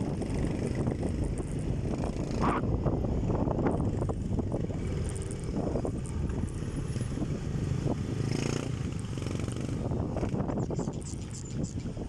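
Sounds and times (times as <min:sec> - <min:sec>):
motorcycle engine: 0:00.0 - 0:11.4.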